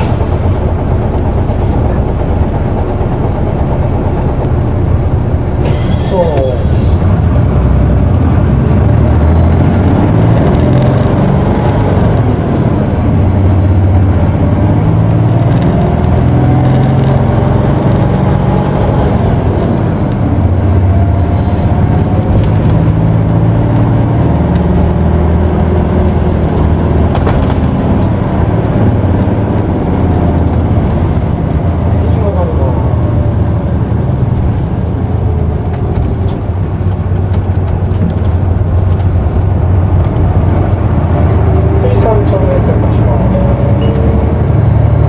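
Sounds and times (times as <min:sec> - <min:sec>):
bus diesel engine accelerating: 0:00.0 - 0:45.0.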